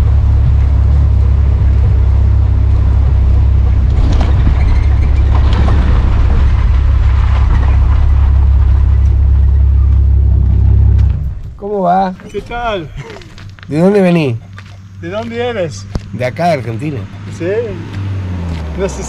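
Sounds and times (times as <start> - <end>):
wind and road noise: 0.0 - 19.0.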